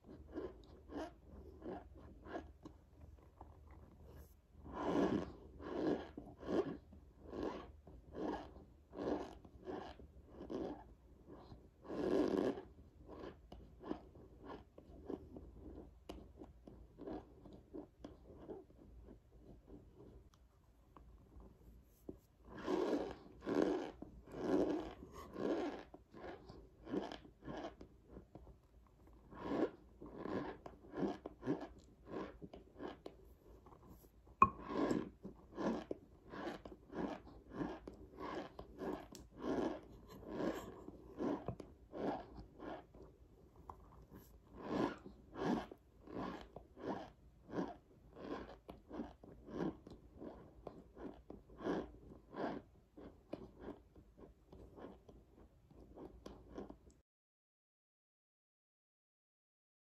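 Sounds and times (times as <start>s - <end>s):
person chewing crunchily: 0.0s - 20.2s, 22.4s - 28.4s, 29.2s - 57.0s.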